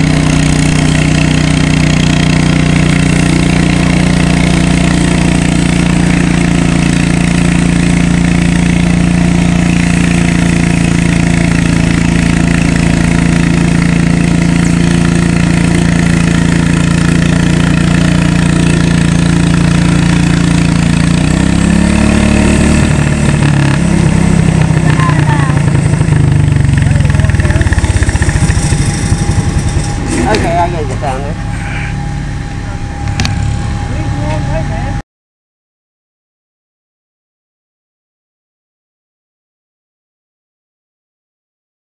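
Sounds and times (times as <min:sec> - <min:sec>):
tractor engine running under load: 0:00.0 - 0:35.0.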